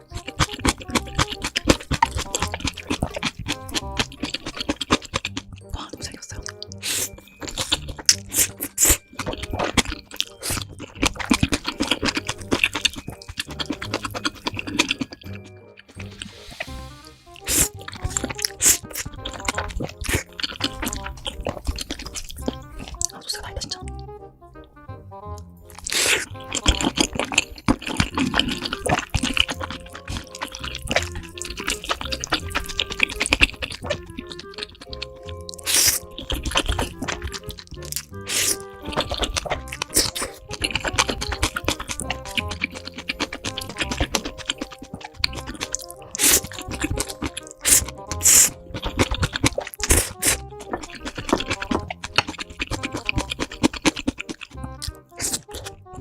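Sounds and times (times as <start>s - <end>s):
chewing noodles: 0.0s - 24.7s, 25.3s - 56.0s
faint background music: 0.0s - 56.0s.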